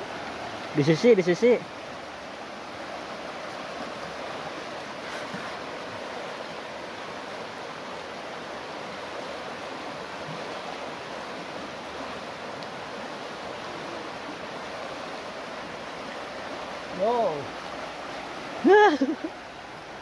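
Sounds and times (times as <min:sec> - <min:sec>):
river rushing over rocks: 0:00.0 - 0:20.0.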